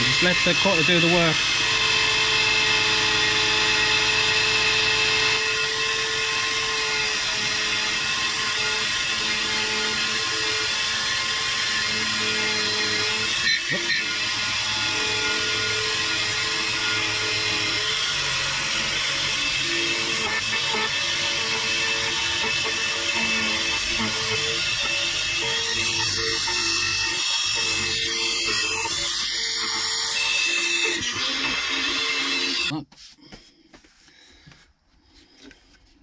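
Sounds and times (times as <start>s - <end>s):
key cutting machine milling: 0.0s - 32.7s.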